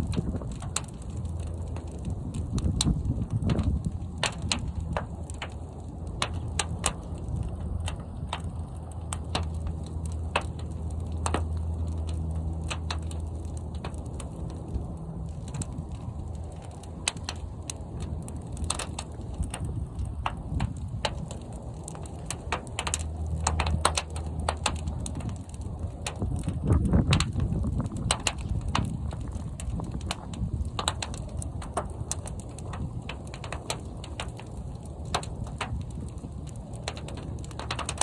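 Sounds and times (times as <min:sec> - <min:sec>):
fire crackles and pops: 0:00.0 - 0:38.0
fire rumbling in kiln: 0:00.0 - 0:38.0.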